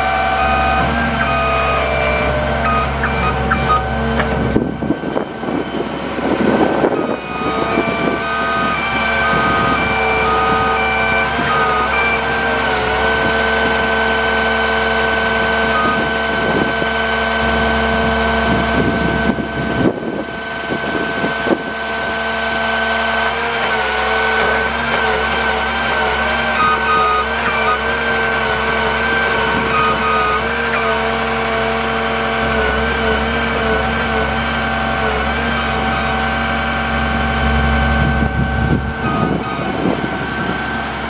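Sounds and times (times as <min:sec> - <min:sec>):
hydraulic system whining: 0:00.0 - 0:41.0
truck engine running: 0:00.0 - 0:41.0.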